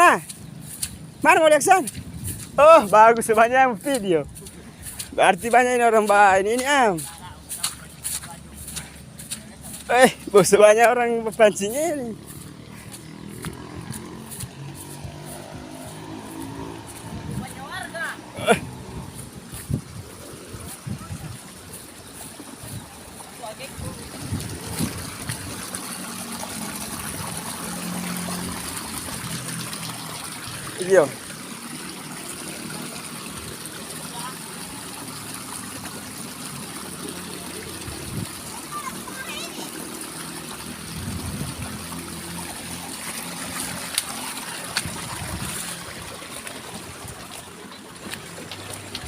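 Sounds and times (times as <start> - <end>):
river water trickling: 0.0 - 49.0.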